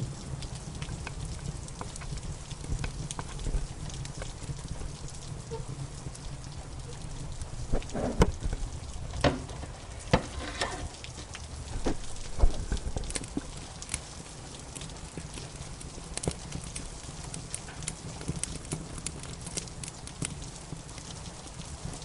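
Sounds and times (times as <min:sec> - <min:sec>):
fire pops and snaps: 0:00.0 - 0:22.0
wood fire crackling: 0:00.0 - 0:22.0.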